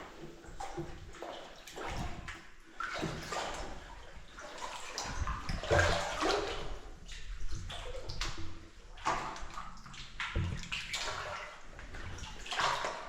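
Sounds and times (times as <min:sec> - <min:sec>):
person wading through water: 0:00.0 - 0:13.0.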